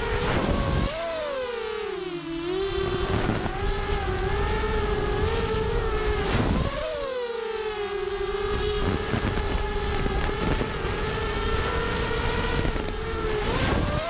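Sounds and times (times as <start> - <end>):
drone motors whining: 0.0 - 14.0
rush of wind: 0.0 - 14.0.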